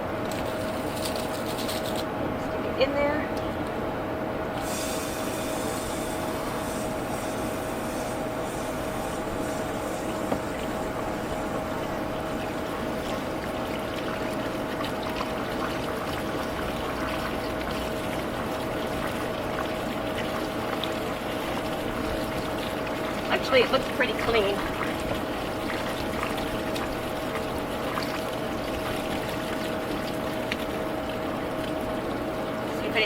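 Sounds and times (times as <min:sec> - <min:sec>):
constant hum: 0:00.0 - 0:33.0
water spraying and rushing: 0:04.7 - 0:32.4.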